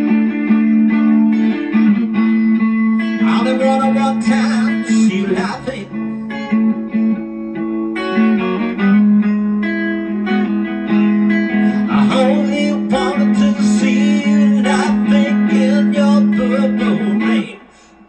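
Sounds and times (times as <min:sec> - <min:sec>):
electric guitar chords: 0:00.0 - 0:18.0.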